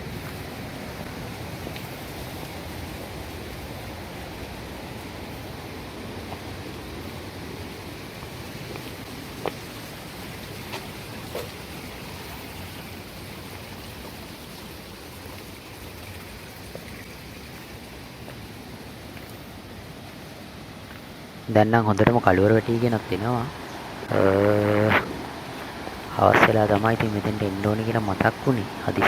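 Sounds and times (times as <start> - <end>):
flowing stream water: 0.0 - 29.0.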